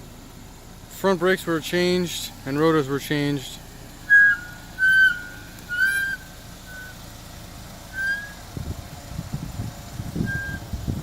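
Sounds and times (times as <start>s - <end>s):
brakes squealing in chirps: 0.0s - 11.0s
low uneven rumble: 0.0s - 11.0s.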